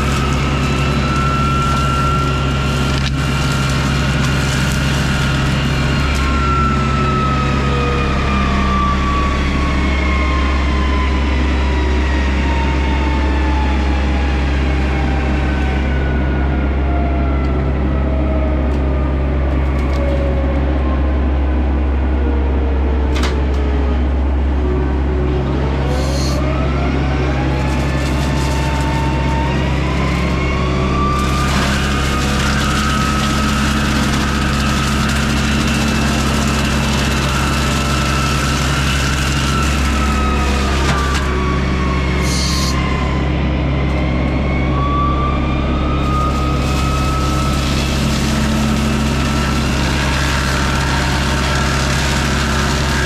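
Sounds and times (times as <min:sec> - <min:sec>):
hydraulic brush mulcher whining: 0:00.0 - 0:17.8, 0:23.6 - 0:53.0
diesel engine running under load: 0:00.0 - 0:53.0.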